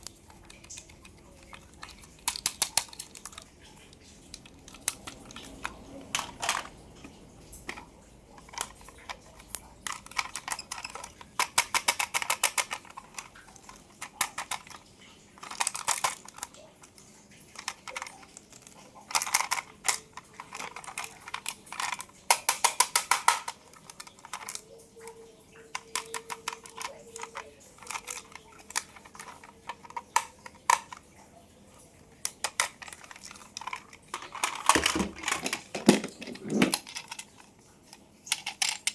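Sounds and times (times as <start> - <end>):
toy cars tapped and clicking: 0.0 - 38.9.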